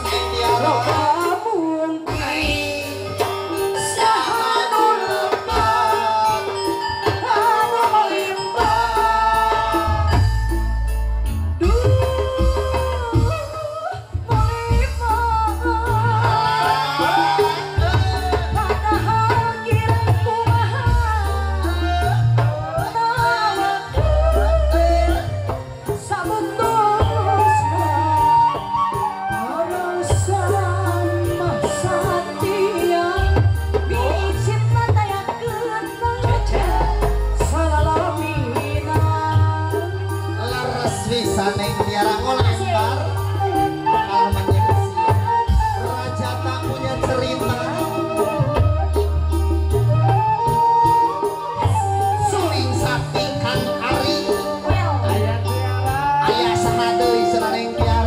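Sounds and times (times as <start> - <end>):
woman singing: 0.0 - 11.0, 11.6 - 58.0
live band music: 0.0 - 58.0.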